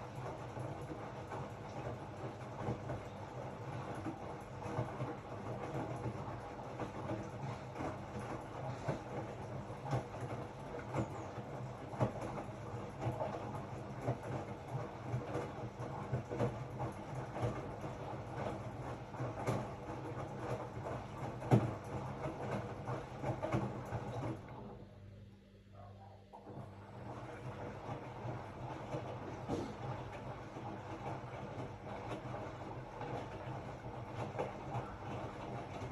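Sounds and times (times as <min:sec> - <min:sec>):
washing machine motor hum: 0:00.0 - 0:35.9.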